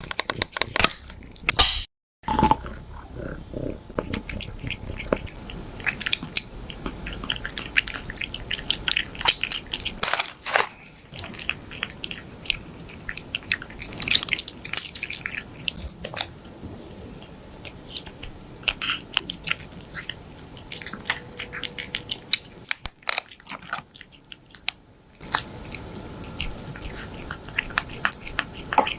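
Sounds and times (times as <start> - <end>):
cat crunching a snack: 4.0 - 28.9.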